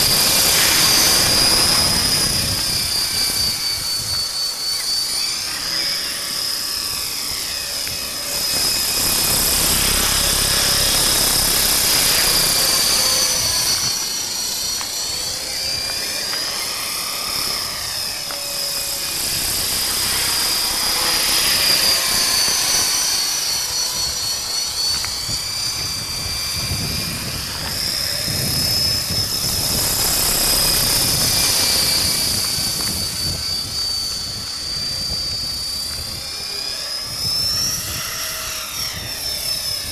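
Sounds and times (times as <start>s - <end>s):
rc helicopter whine: 0.0s - 39.9s
rotor buzz: 0.0s - 39.9s.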